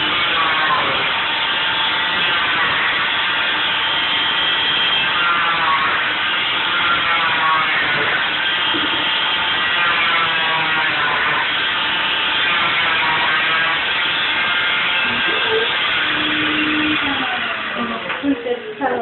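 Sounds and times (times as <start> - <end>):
cast saw whining: 0.0 - 19.0.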